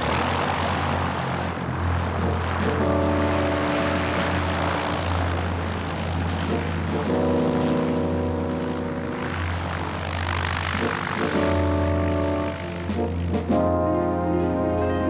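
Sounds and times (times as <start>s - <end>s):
propeller aeroplane engine drone: 0.0s - 15.0s
sustained music chords: 0.0s - 15.0s.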